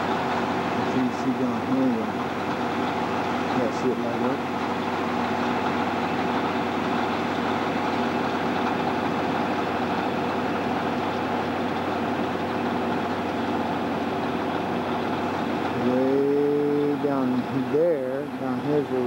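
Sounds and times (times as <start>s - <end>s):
heavy engine running steadily: 0.0s - 19.0s.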